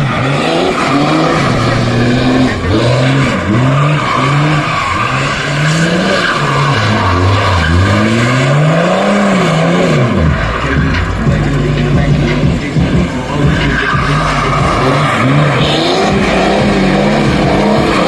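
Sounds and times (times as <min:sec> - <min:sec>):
car engine revving: 0:00.0 - 0:18.0
tyres squealing on asphalt: 0:00.0 - 0:18.0.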